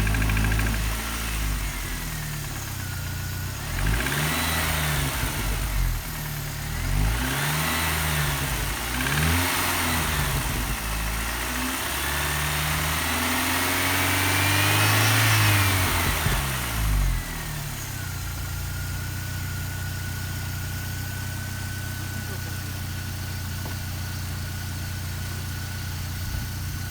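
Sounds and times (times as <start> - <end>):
car engine revving and idling: 0.0 - 26.9.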